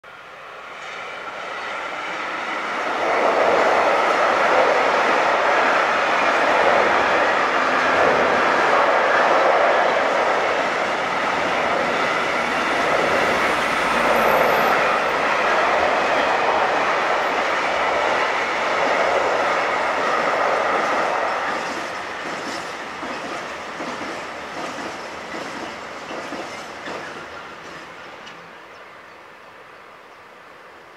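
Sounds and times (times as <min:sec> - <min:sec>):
train wheels on rails: 0:00.1 - 0:29.0.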